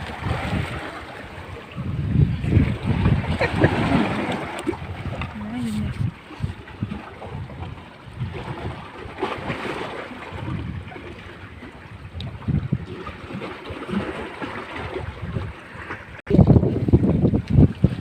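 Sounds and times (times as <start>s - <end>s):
sea waves washing: 0.0s - 18.0s
wind buffeting microphone: 0.0s - 18.0s.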